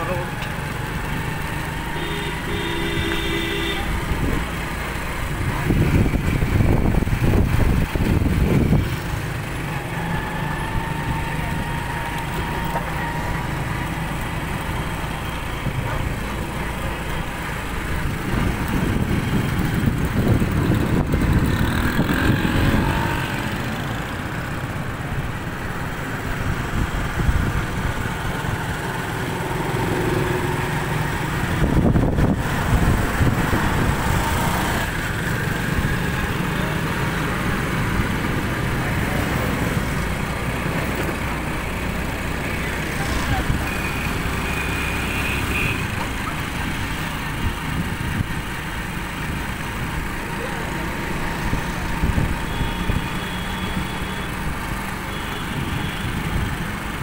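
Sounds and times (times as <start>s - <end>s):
motorcycle engine rumble: 0.0s - 57.0s
street traffic: 0.0s - 57.0s.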